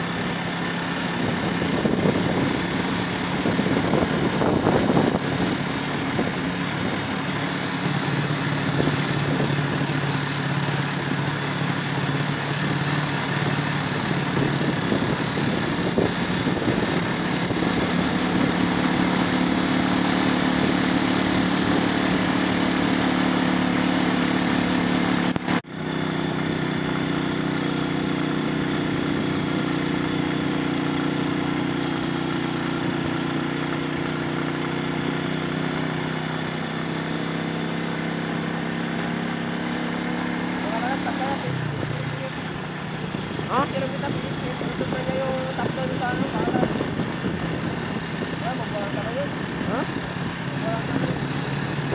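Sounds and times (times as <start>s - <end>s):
road and wind hiss: 0.0s - 51.9s
vehicle engine running: 0.0s - 51.9s.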